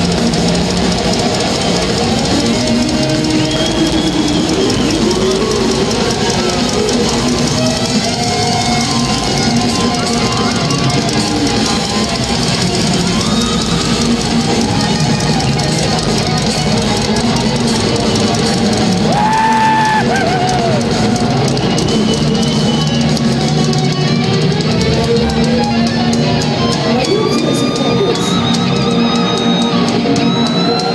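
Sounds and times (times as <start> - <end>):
drum kit: 0.0 - 27.4
electric guitars: 0.0 - 30.9.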